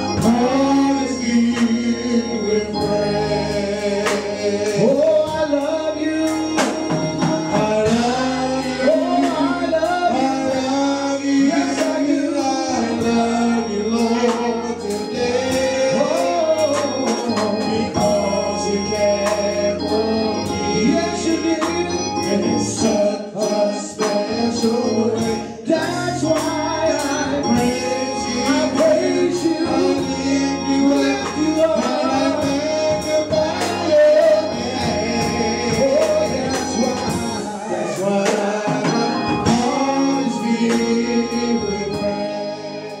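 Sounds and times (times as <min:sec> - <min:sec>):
man singing into a microphone: 0:00.0 - 0:43.0
organ: 0:00.0 - 0:43.0
percussion: 0:00.0 - 0:43.0.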